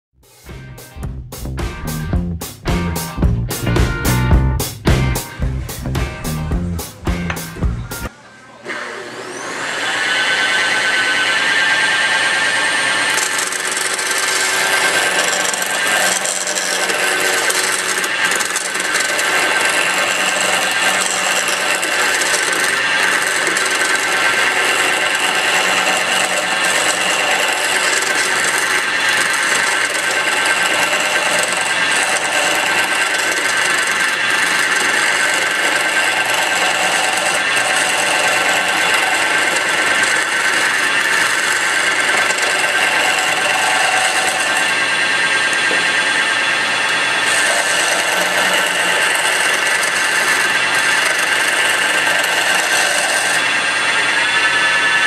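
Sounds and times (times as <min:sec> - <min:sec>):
lathe motor hum: 0:08.7 - 0:55.0
chisel scraping spinning wood: 0:09.4 - 0:55.0.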